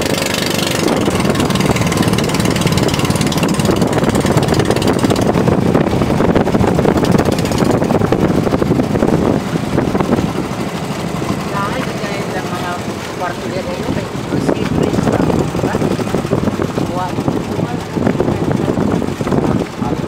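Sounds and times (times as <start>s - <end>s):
boat engine running: 0.0s - 20.0s
water rushing: 0.0s - 20.0s
wind: 0.0s - 20.0s.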